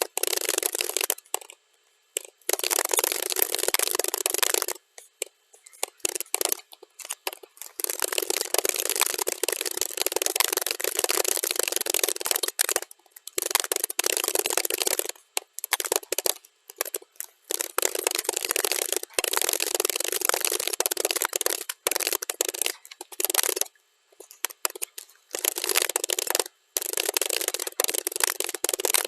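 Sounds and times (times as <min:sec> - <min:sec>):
rapid keyboard key clicks: 0:00.0 - 0:01.6, 0:02.2 - 0:29.0.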